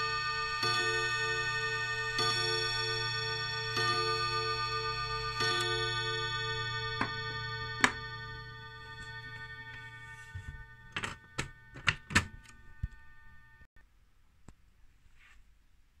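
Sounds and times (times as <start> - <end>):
clock chime rods ringing: 0.0 - 13.7.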